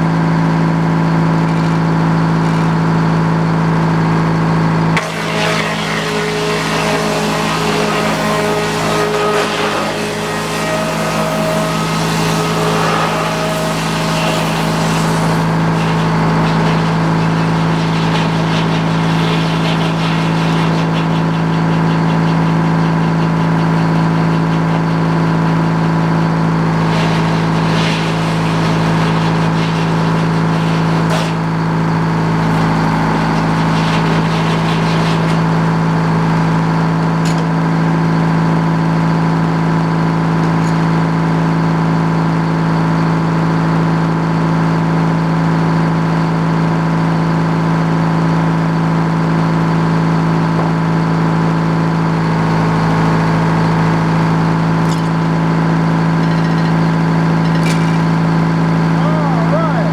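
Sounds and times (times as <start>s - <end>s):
sawmill engine running: 0.0s - 37.2s, 37.8s - 59.9s.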